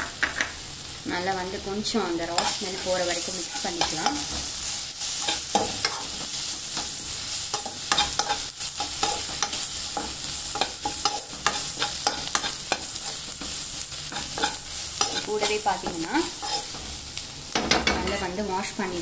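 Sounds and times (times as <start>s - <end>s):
oil sizzling: 0.0s - 19.0s
metal spoon scraping a pan: 2.3s - 18.3s.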